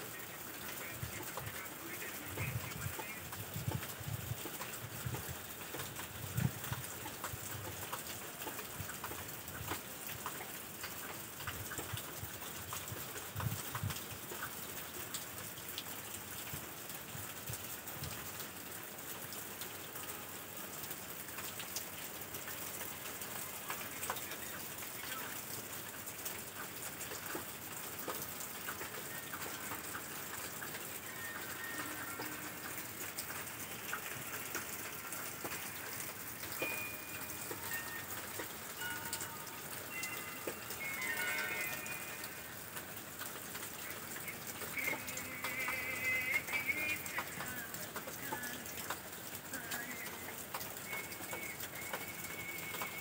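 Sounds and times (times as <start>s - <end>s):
rain on railway track: 0.0s - 53.0s.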